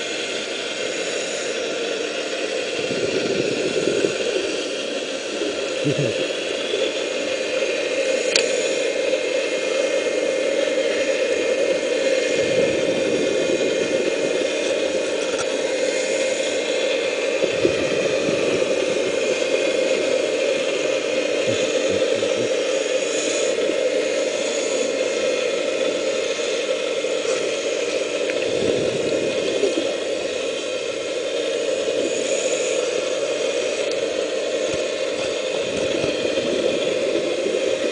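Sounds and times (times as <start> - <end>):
underwater dredge rushing hum: 0.0 - 37.9.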